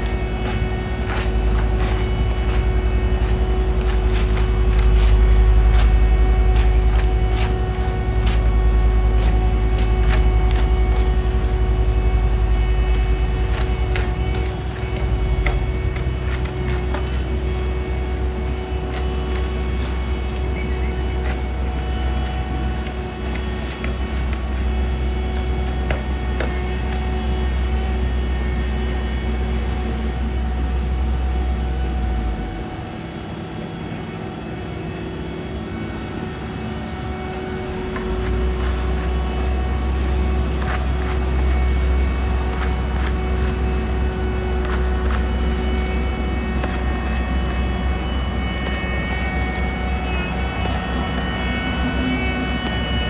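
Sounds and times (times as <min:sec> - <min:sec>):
diesel engines rumbling: 0:00.0 - 0:33.2, 0:34.6 - 0:53.0
droning hum: 0:00.0 - 0:53.0.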